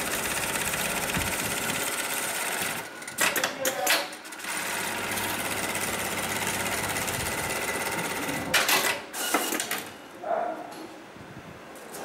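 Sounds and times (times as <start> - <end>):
sewing machine stitching: 0.0 - 9.9.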